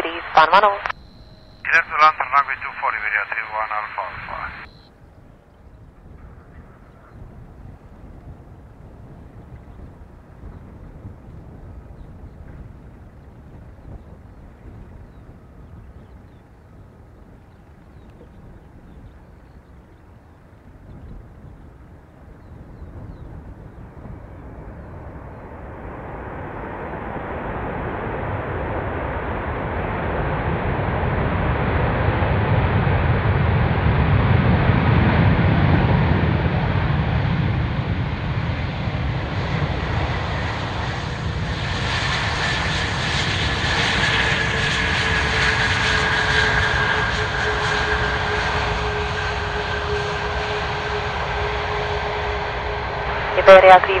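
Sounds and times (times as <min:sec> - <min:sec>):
two-tone engine whine: 0:00.0 - 0:19.0, 0:22.4 - 0:54.0
jet engines rumbling: 0:00.0 - 0:54.0.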